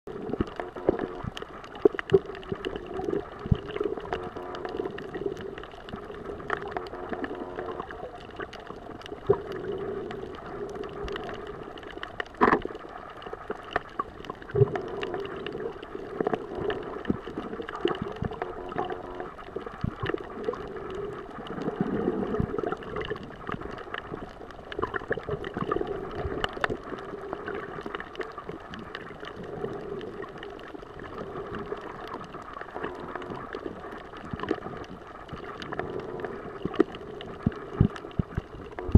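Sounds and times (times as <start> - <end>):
sharp underwater clicks and pops: 0.1 - 38.9
underwater rush of water: 0.1 - 38.9.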